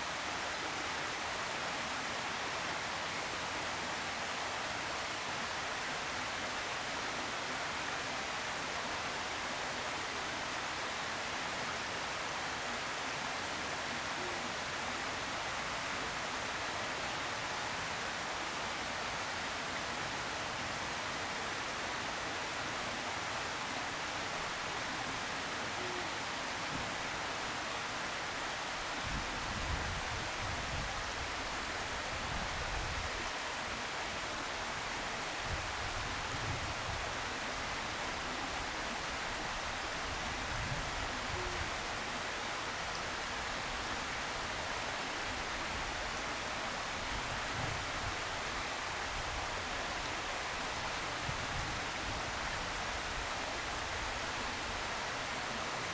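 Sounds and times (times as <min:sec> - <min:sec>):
outdoor background hiss: 0:00.0 - 0:55.9.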